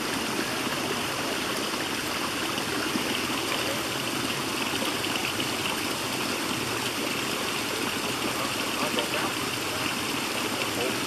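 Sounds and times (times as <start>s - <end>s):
creek running over rocks: 0.0s - 11.0s.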